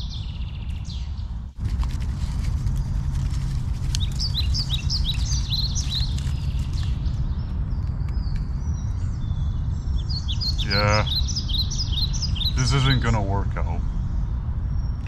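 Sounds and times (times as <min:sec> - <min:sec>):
small bird chirping rapidly: 0:00.0 - 0:15.0
wind rumble on microphone: 0:00.0 - 0:15.0.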